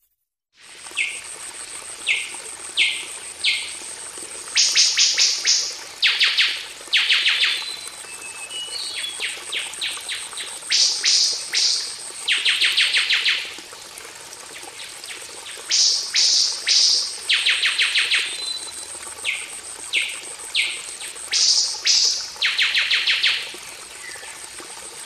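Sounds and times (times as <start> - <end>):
running water hiss: 0.6 - 25.0.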